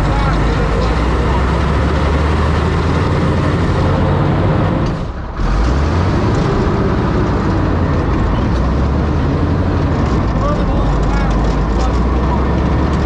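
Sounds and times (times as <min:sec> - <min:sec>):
tank engine running loudly: 0:00.0 - 0:13.0.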